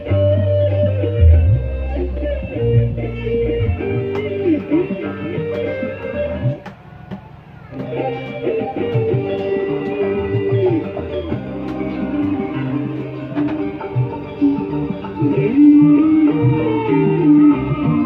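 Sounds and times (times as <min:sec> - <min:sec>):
electric guitar bending notes: 0:00.0 - 0:06.7, 0:07.6 - 0:18.0
bass: 0:00.0 - 0:18.0.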